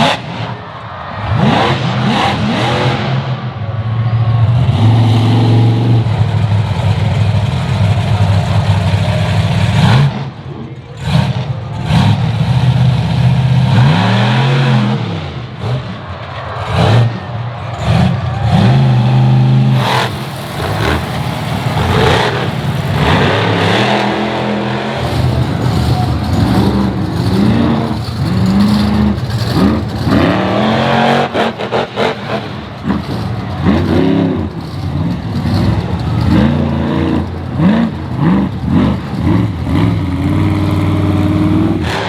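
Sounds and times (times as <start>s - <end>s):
monster truck engines revving: 0.0s - 42.0s.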